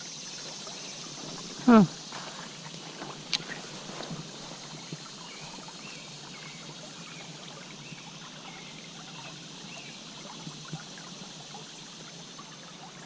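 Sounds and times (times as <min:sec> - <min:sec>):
creek water babbling over stones: 0:00.0 - 0:13.0.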